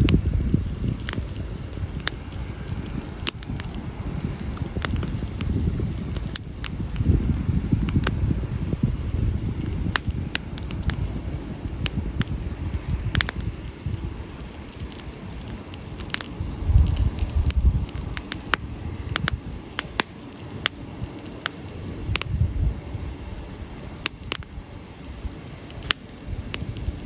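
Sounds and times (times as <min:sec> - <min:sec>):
burning logs popping and snapping: 0:00.0 - 0:27.0
low rumble of fire: 0:00.0 - 0:27.0.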